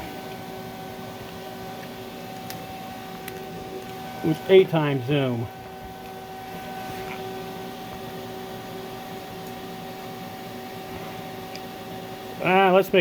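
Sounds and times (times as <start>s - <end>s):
electrical hum with fan whir: 0.0s - 13.0s.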